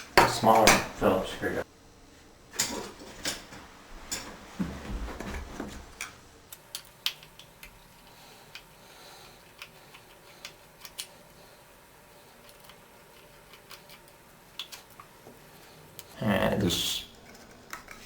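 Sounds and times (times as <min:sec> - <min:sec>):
small parts rustling: 0:02.6 - 0:16.2, 0:17.1 - 0:18.0.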